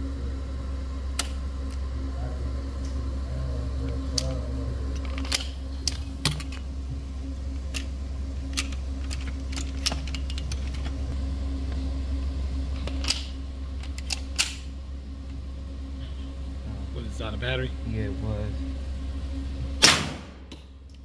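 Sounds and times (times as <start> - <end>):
ventilation hum: 0.0 - 21.0.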